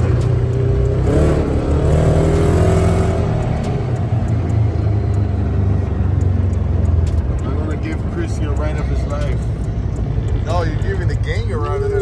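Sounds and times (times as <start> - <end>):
rising engine whine: 0.0 - 12.0
vehicle engine running: 0.0 - 12.0.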